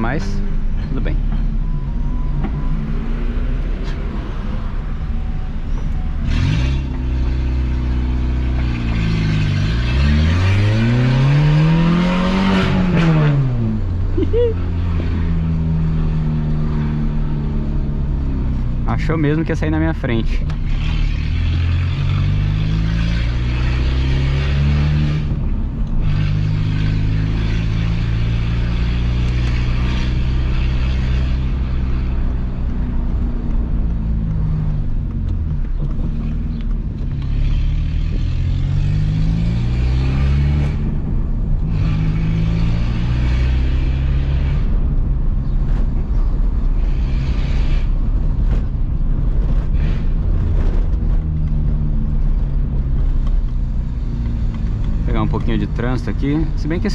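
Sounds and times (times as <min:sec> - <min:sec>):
car engine accelerating hard: 0:05.9 - 0:56.9.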